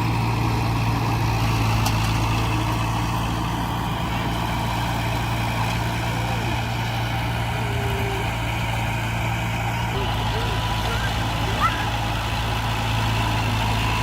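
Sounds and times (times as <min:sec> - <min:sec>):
heavy diesel engine humming: 0:00.0 - 0:14.0.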